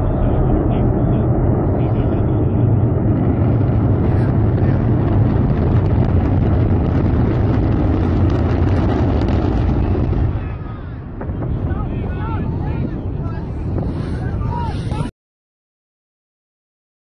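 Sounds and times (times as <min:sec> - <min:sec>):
distant rocket launch rumble: 0:00.0 - 0:15.1
wind buffeting microphone: 0:00.0 - 0:15.1.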